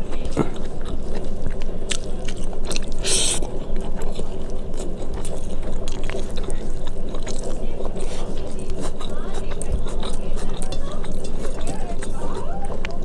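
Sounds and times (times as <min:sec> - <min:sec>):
chewing with wet mouth clicks: 0:00.0 - 0:13.0
low background rumble: 0:00.0 - 0:13.0.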